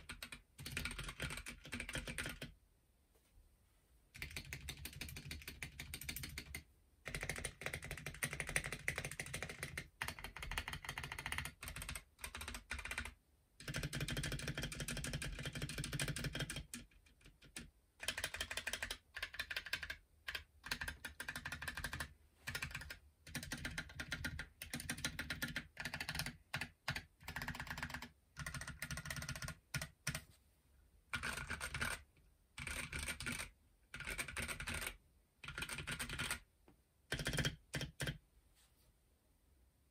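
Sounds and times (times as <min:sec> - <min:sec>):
typing on mechanical keyboard: 0:00.0 - 0:02.6, 0:04.1 - 0:30.3, 0:31.1 - 0:36.5, 0:37.1 - 0:38.2.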